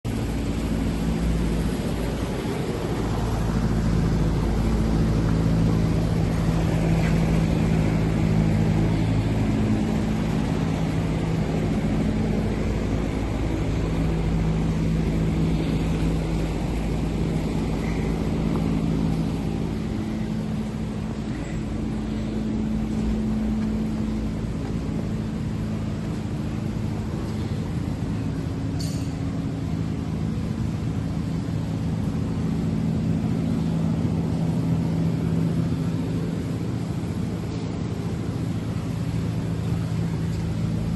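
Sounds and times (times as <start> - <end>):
lathe machine hum: 0.1 - 40.9.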